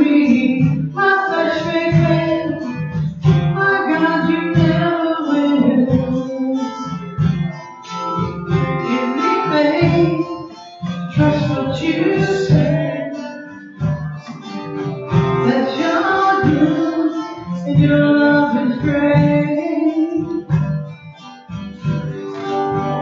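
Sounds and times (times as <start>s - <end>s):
congas beat: 0.0s - 5.0s, 5.6s - 23.0s
person singing: 0.0s - 7.8s, 8.6s - 13.6s, 14.9s - 20.8s
acoustic guitar strummed: 0.0s - 23.0s.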